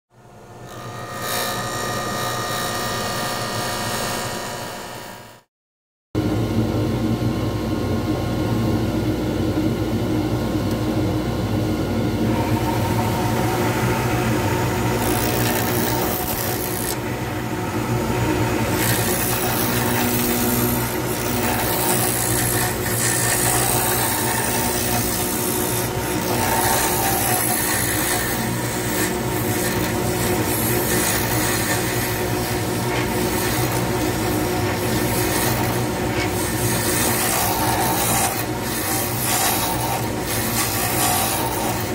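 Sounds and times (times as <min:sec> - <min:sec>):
lathe motor humming: 0:00.3 - 0:05.4, 0:11.5 - 0:41.9.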